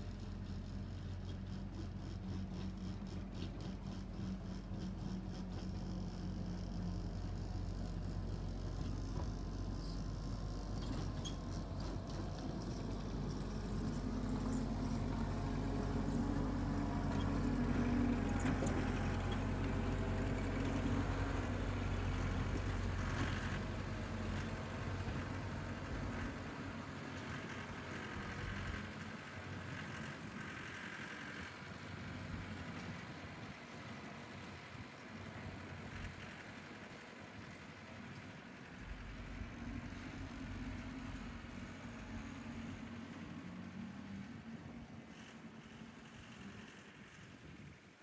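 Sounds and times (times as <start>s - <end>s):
tractor engine running: 0.0s - 44.3s.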